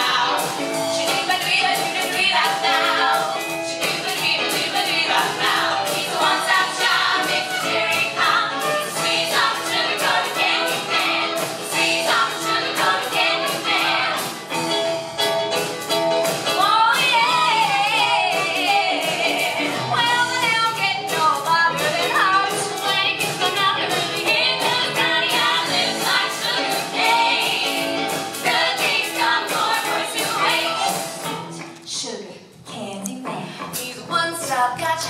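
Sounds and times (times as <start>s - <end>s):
female vocal group singing: 0.0s - 14.3s, 16.6s - 31.0s
live band playing: 0.0s - 31.9s.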